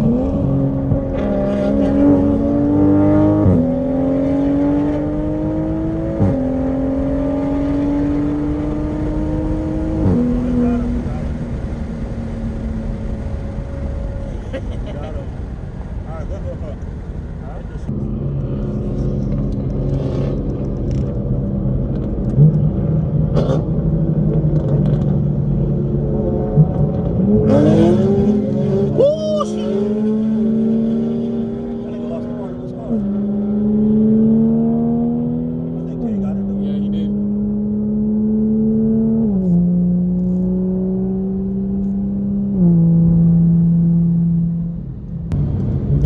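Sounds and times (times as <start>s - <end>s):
car engine accelerating: 0.0s - 46.0s
road rumble: 0.0s - 46.0s.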